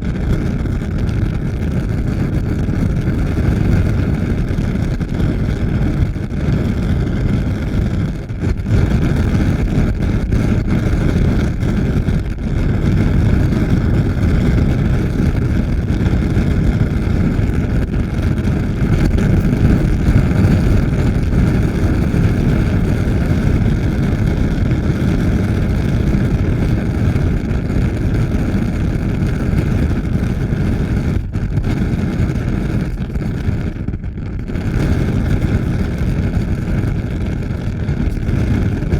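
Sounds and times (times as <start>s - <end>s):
fire rumbling: 0.0s - 38.9s.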